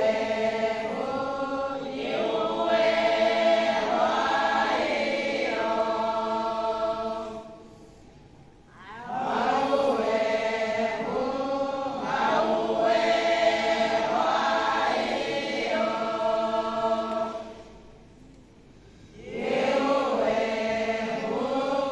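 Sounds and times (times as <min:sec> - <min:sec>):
women's choir singing: 0:00.0 - 0:07.8, 0:08.7 - 0:18.2, 0:19.1 - 0:21.9.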